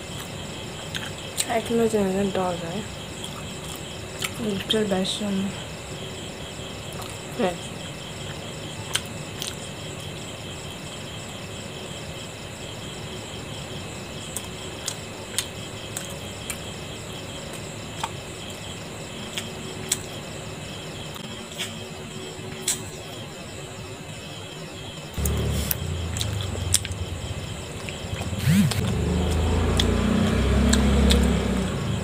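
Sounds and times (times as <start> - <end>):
insects chirping: 0.0 - 32.0.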